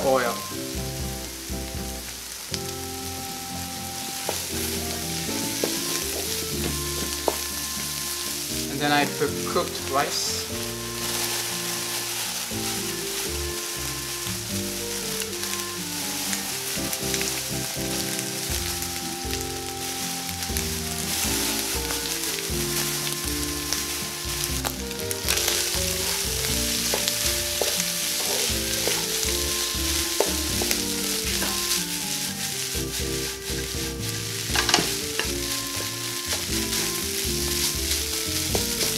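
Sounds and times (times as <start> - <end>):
rice sizzling in oil: 0.0 - 38.9
wooden spatula scraping a wok: 0.0 - 38.9.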